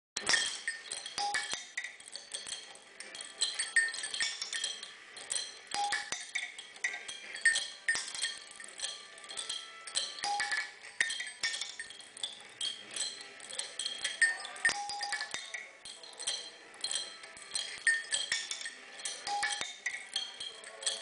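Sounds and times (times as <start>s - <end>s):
metallic clinks and bells ringing: 0.2s - 21.0s.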